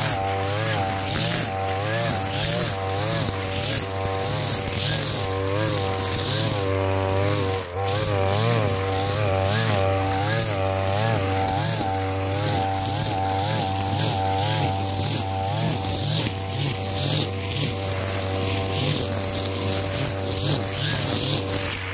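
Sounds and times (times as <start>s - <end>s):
brush cutter cutting grass: 0.0s - 21.9s.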